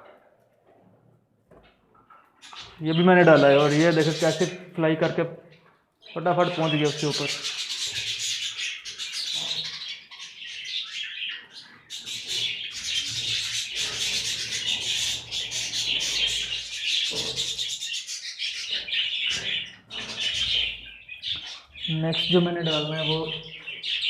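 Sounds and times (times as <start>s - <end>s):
caged birds chattering and chirping: 0.0s - 24.0s.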